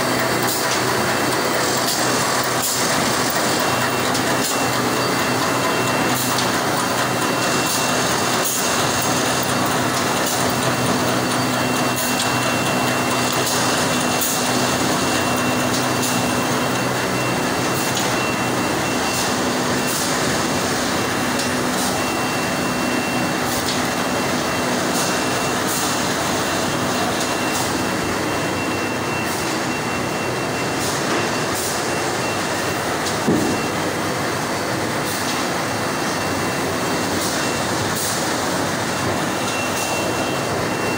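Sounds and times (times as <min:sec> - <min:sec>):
pasting machine running: 0:00.0 - 0:40.9.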